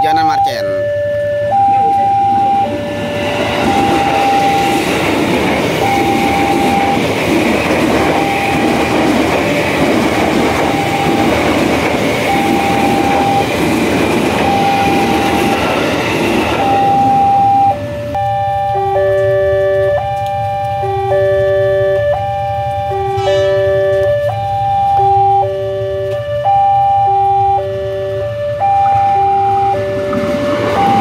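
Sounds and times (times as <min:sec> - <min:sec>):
level crossing alarm two tones: 0:00.0 - 0:31.0
train passing at speed: 0:00.0 - 0:31.0.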